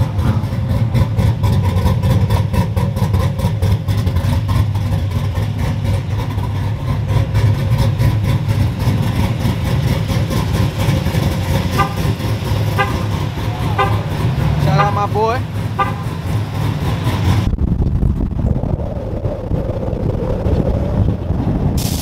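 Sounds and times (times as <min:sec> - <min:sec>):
car engine idling with choppy pulse: 0:00.0 - 0:22.0.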